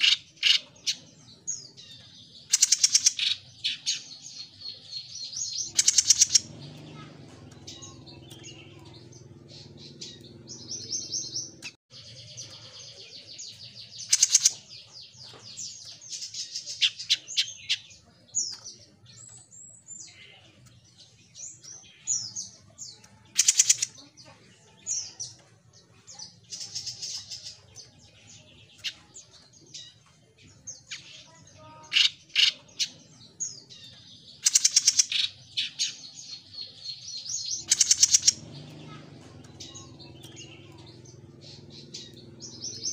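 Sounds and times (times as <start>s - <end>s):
songbird chattering and trilling: 0.0s - 42.9s.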